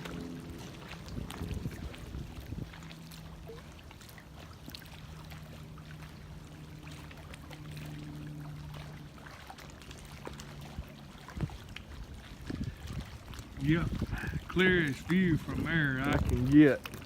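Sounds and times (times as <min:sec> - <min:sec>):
steady low hum: 0:00.0 - 0:17.0
water lapping and trickling: 0:00.0 - 0:17.0.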